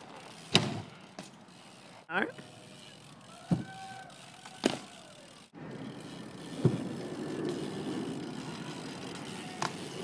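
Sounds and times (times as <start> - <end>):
bicycle tyres rumbling on pavement: 0.0 - 10.0.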